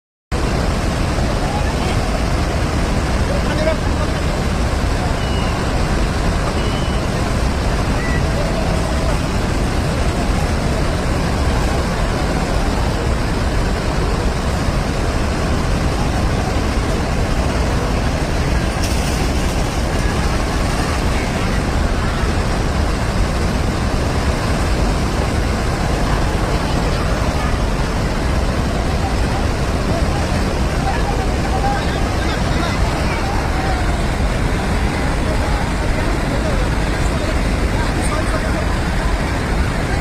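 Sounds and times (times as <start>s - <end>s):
floodwater rushing: 0.4s - 40.0s.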